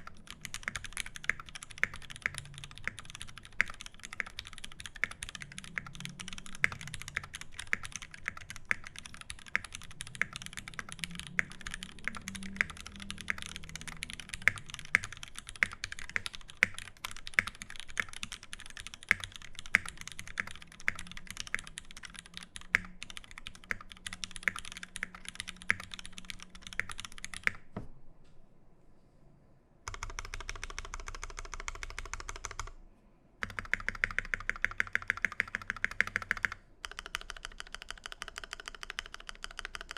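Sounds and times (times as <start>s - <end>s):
mechanical keyboard typing: 0.0s - 27.8s, 29.9s - 32.8s, 33.4s - 39.9s.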